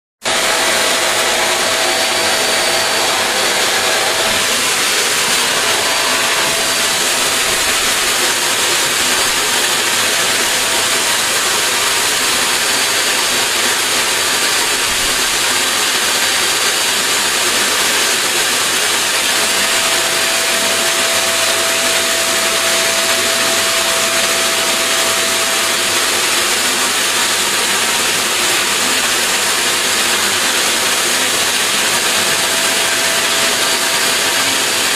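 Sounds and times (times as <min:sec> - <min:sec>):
vacuum cleaner running: 0:00.2 - 0:34.9.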